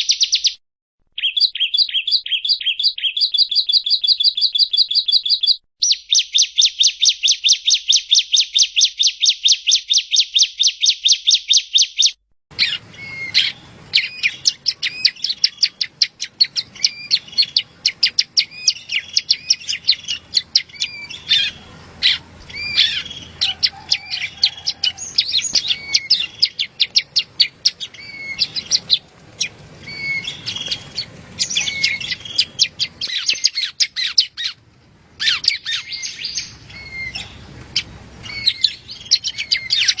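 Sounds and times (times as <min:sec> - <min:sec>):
bird trilling: 0:00.0 - 0:00.6, 0:01.2 - 0:34.6, 0:35.2 - 0:40.0
bird chirping: 0:00.0 - 0:34.6, 0:35.2 - 0:40.0.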